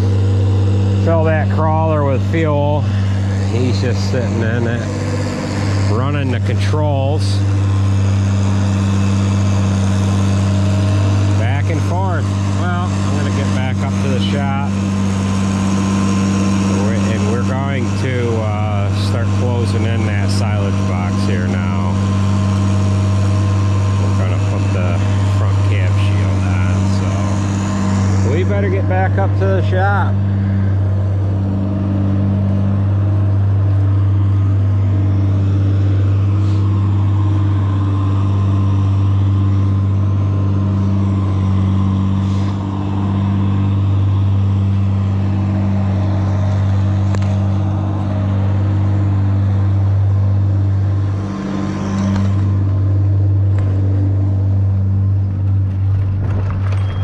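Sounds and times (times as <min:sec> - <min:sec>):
vehicle engine humming: 0:00.0 - 0:57.0.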